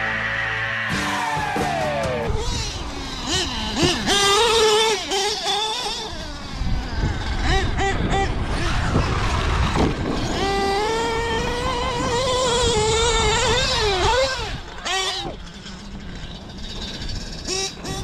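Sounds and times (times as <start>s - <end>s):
nitro engine revving: 0.0s - 18.0s.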